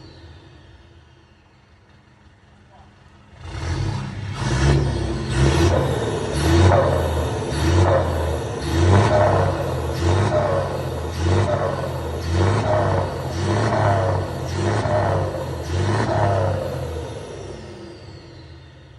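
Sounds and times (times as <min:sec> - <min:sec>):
engine throttle blips: 0:00.0 - 0:18.9.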